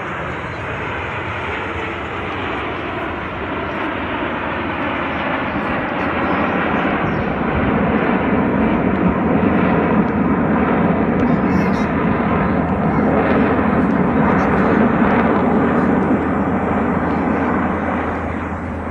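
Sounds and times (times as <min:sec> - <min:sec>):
jet aircraft flying past: 0:00.0 - 0:18.9.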